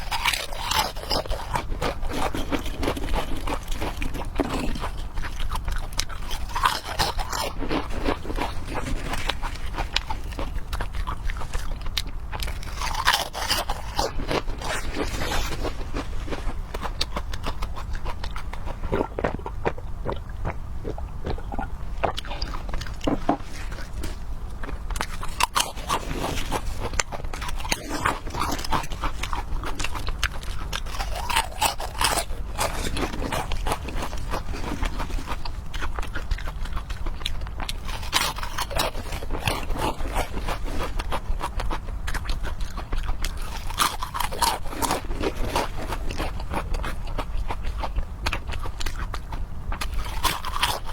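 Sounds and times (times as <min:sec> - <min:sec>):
biting and chewing with crunching: 0:00.0 - 0:50.9.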